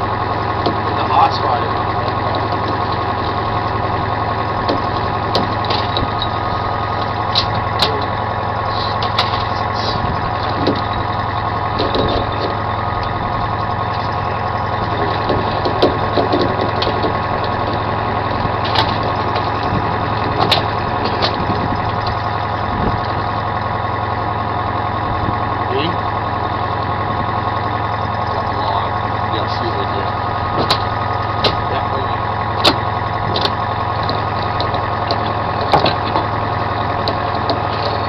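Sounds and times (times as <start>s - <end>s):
boat engine droning: 0.0s - 38.0s
light clicks and knocks from gear: 0.6s - 8.3s, 8.9s - 23.3s, 27.9s - 38.0s.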